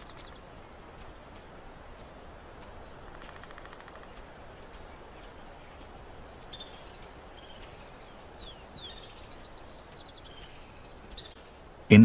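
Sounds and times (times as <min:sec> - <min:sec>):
faint outdoor ambience: 0:00.0 - 0:12.0
small birds chirping: 0:00.0 - 0:12.0.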